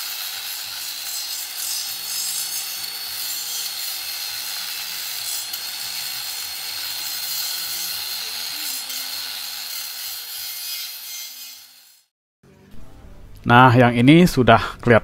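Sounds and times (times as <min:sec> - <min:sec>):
angle grinder grinding metal: 0:00.0 - 0:12.1.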